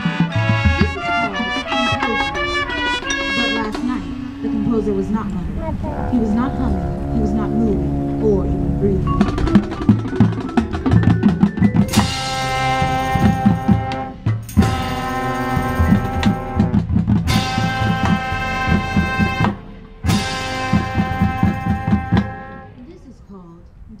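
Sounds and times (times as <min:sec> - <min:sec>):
drumline strokes: 0:00.0 - 0:23.0
marching band playing: 0:00.0 - 0:23.0.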